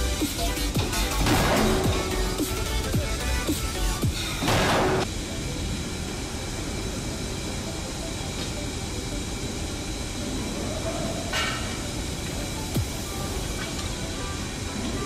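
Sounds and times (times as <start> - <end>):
machinery rumble and hiss: 0.0 - 15.0.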